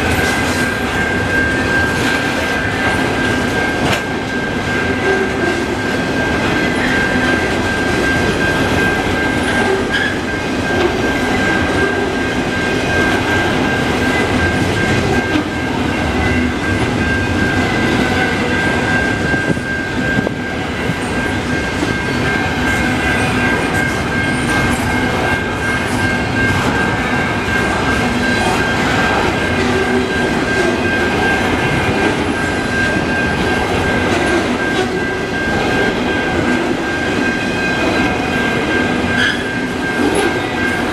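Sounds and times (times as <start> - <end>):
high-pitched wheel ring: 0.0 - 40.9
train wheels clattering on rails: 0.0 - 40.9.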